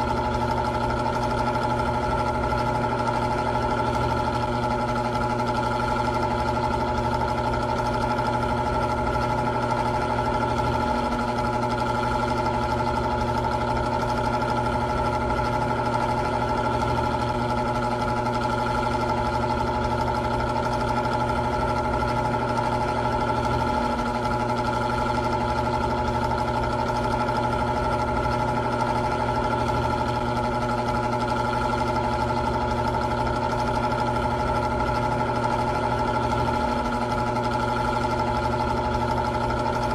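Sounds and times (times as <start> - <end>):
electric fan motor humming: 0.0 - 39.9.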